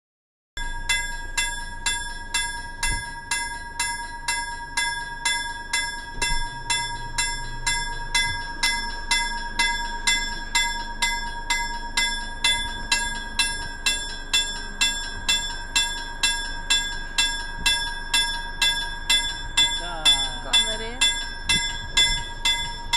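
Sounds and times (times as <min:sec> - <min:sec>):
railroad crossing bell ringing: 0:00.6 - 0:22.9.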